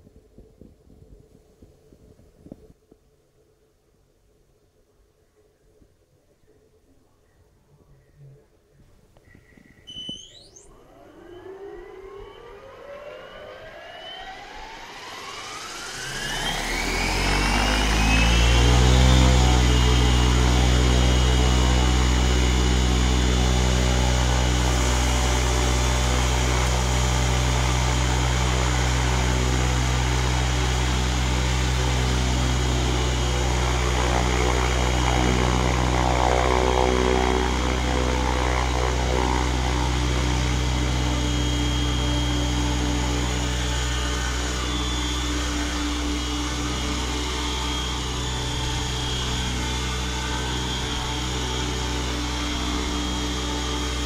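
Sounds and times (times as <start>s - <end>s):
rc helicopter rotor whine: 9.9s - 54.0s.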